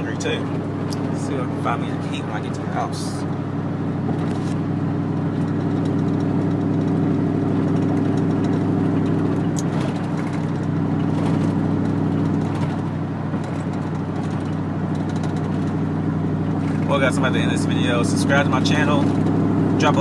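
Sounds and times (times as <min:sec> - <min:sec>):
truck engine droning: 0:00.0 - 0:20.0
tyre and road noise: 0:00.0 - 0:20.0.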